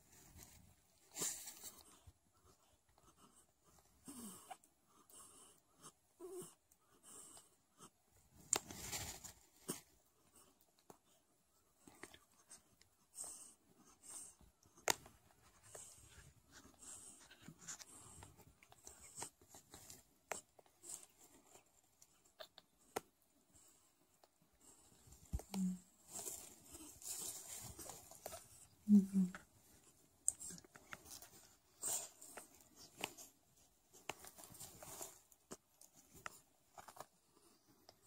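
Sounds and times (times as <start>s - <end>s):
soft rustle: 0.0s - 4.8s, 7.3s - 38.0s
kittens suckling clicks and snuffles: 0.0s - 38.0s.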